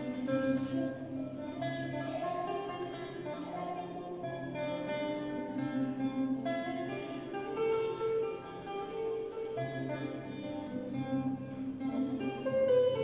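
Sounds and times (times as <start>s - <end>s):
lute plucked melody: 0.0s - 13.0s.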